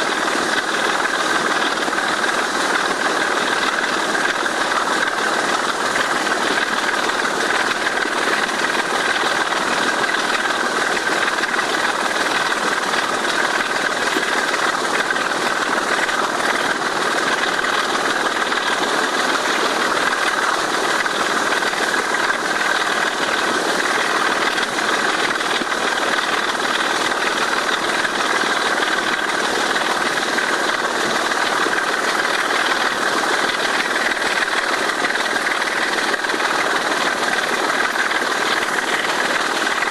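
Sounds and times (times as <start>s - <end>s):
diesel engine working hard: 0.0s - 39.9s
train rattling: 0.0s - 39.9s.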